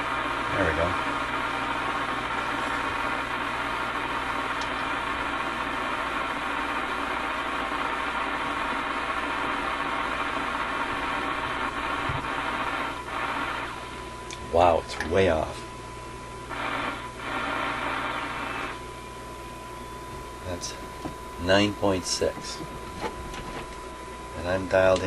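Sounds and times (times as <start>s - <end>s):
shortwave radio static: 0.0s - 25.0s.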